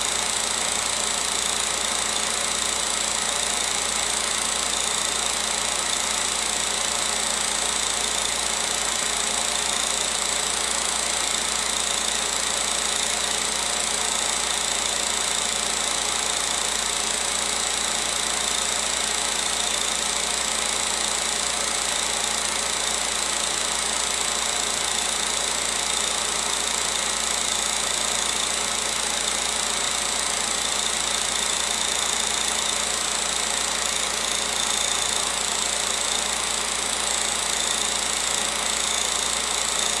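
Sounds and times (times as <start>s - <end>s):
film projector running: 0.0s - 40.0s.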